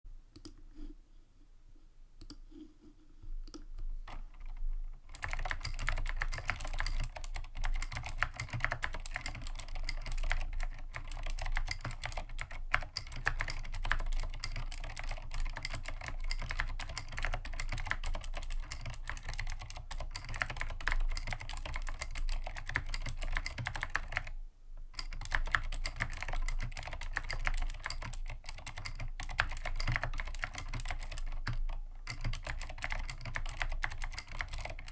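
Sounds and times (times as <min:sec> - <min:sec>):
clicky mechanical keyboard typing: 0:03.4 - 0:24.4, 0:25.0 - 0:34.9.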